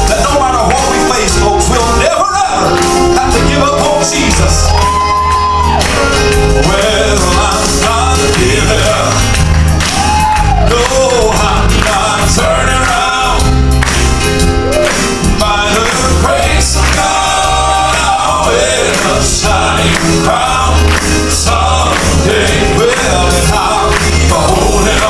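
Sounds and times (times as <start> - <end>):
male quartet singing in harmony: 0.0 - 4.7, 6.3 - 9.4, 10.5 - 13.9, 15.2 - 25.0
bass line: 0.0 - 25.0
piano accompaniment: 0.0 - 25.0.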